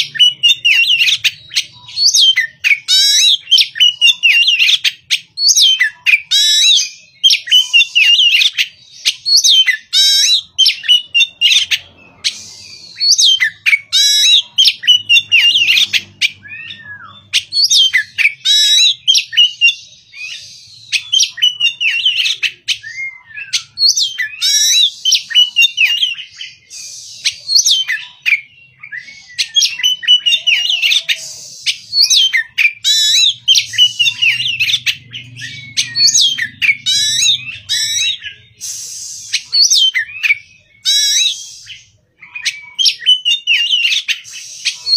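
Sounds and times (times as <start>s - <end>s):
magpie-robin singing: 0.0s - 44.9s.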